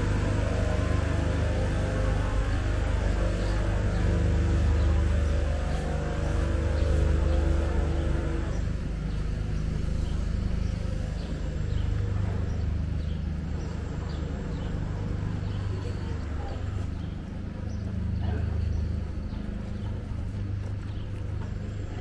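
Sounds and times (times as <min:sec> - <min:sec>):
low street rumble: 0:00.0 - 0:22.0.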